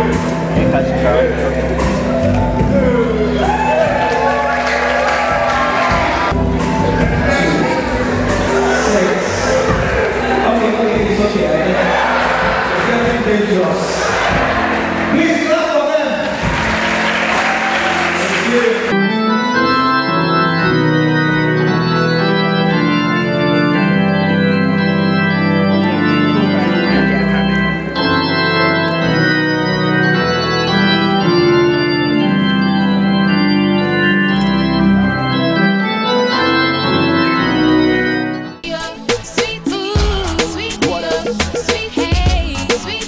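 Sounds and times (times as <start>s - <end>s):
organ playing chords: 0.0s - 43.0s.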